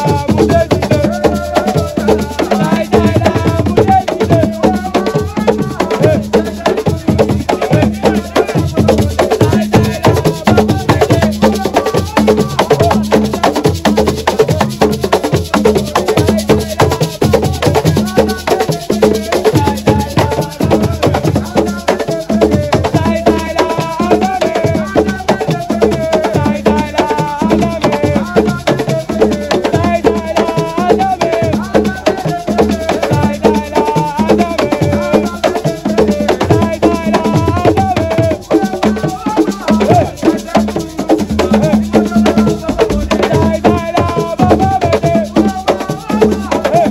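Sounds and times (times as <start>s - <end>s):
hand drums beating: 0.0s - 46.9s
voices singing a chant: 0.0s - 46.9s.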